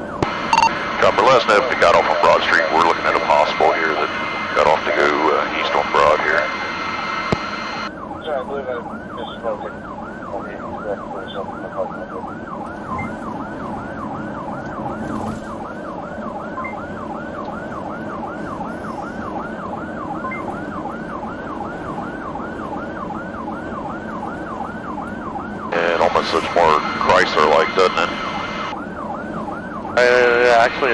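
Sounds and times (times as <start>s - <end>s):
police siren yelping: 0.0s - 30.9s
road noise: 0.0s - 30.9s.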